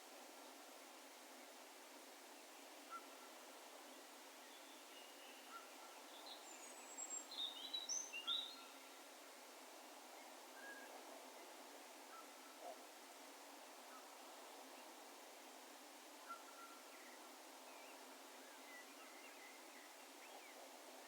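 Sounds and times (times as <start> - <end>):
open-air ambience hiss: 0.0 - 21.0.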